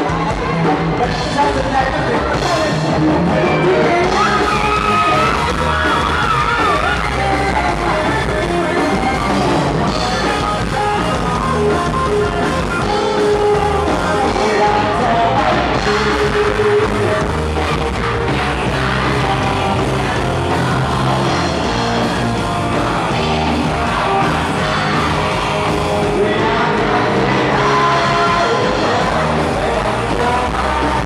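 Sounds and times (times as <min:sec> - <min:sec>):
live rock band with singing: 0:00.0 - 0:31.0.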